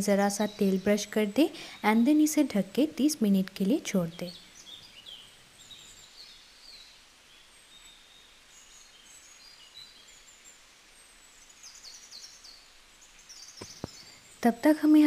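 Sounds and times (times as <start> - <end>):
small birds chirping: 0.0 - 15.0
steady background hiss: 0.0 - 15.0.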